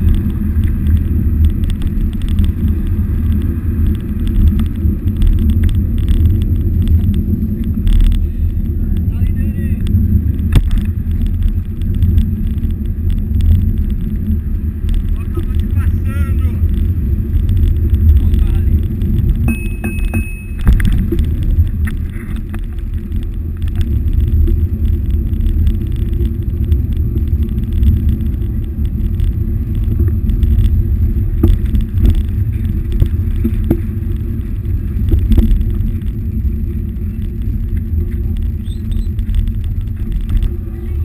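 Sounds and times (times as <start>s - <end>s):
bicycle clicks and rattles: 0.0s - 41.0s
wind and road rumble: 0.0s - 41.0s.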